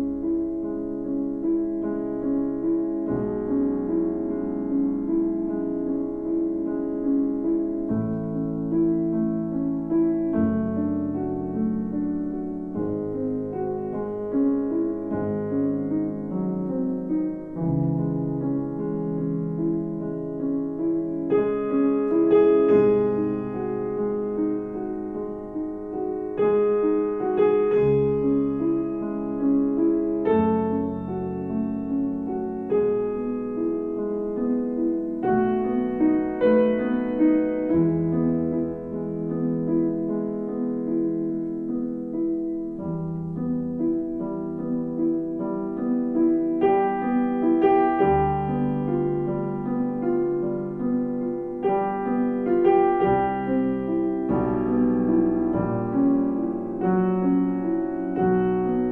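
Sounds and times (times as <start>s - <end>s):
piano music: 0.0s - 58.9s.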